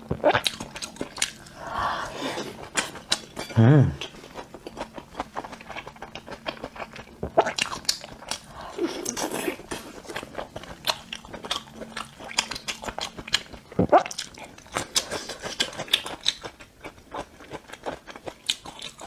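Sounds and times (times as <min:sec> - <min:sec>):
chewing food: 0:00.1 - 0:19.0.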